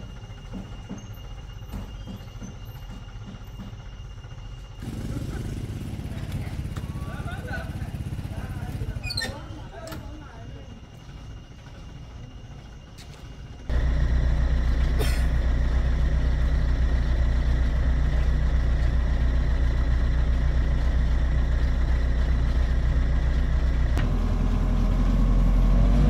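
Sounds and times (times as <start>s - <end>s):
diesel engine running: 0.0s - 9.2s, 10.6s - 26.0s.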